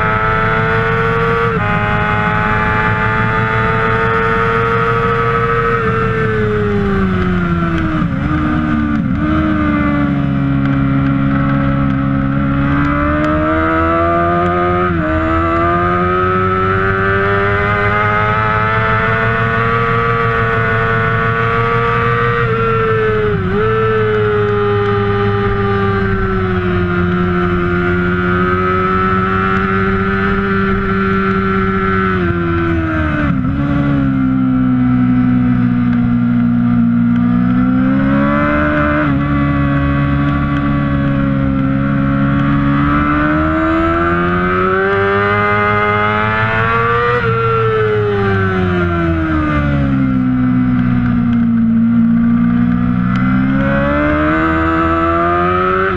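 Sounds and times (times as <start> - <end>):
motorcycle engine at high revs: 0.0 - 55.9.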